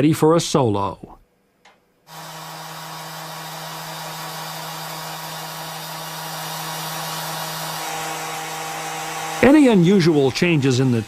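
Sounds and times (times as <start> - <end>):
electric sander whirring: 2.1 - 11.0.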